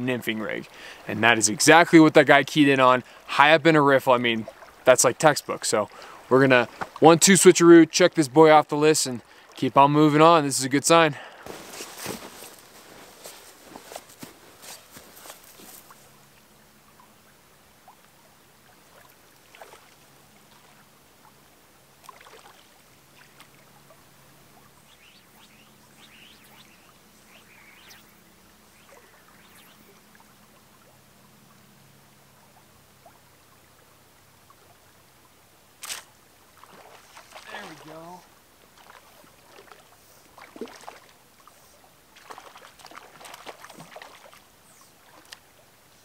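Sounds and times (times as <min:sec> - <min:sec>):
stream trickling: 0:00.0 - 0:46.0.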